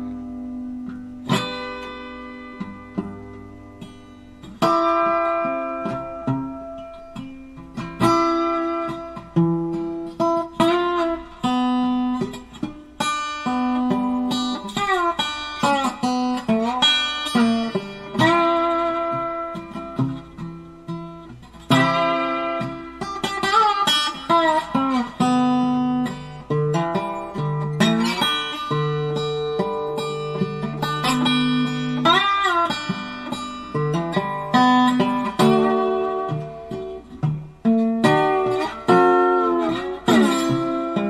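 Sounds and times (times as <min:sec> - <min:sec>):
plucked guitar melody: 0:00.0 - 0:41.0.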